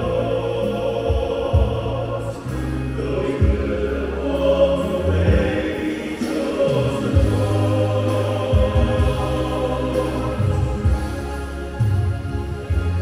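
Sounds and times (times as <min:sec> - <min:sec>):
men's choir singing in parts: 0:00.0 - 0:11.8.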